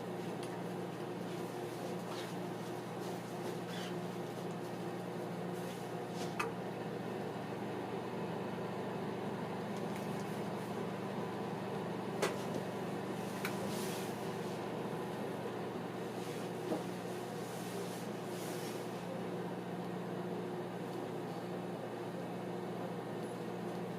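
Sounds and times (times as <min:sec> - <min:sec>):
microwave oven humming: 0:00.0 - 0:23.9.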